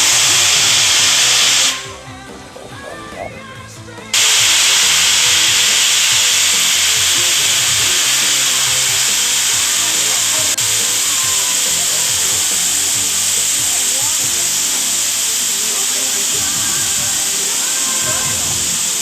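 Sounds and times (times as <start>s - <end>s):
loud steady water jet hiss: 0.0s - 2.1s, 4.1s - 19.0s.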